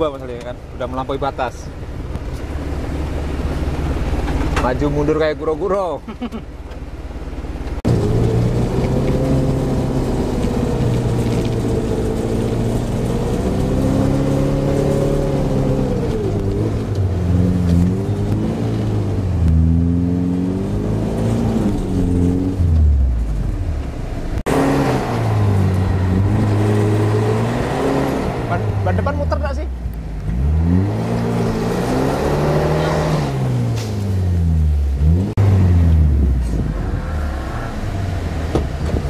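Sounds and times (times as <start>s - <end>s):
engine revving: 7.7s - 39.0s.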